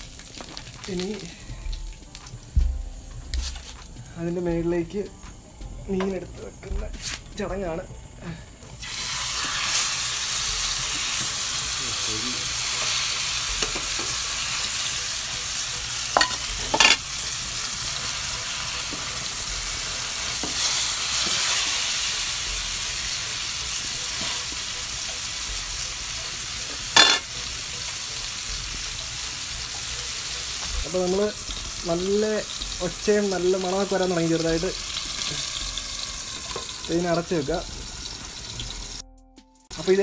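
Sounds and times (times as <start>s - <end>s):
fish sizzling in hot oil: 0.0s - 8.1s, 8.7s - 39.0s.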